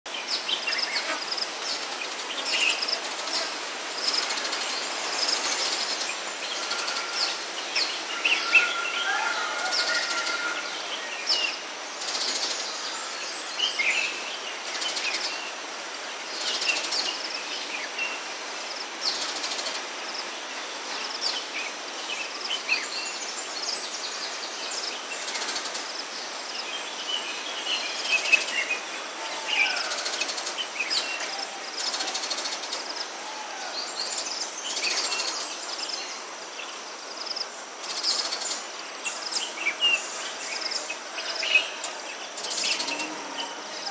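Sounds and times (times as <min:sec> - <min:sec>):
steady high hiss: 0:00.1 - 0:43.9
wild birds chirping and whistling: 0:00.2 - 0:15.7, 0:20.8 - 0:43.9.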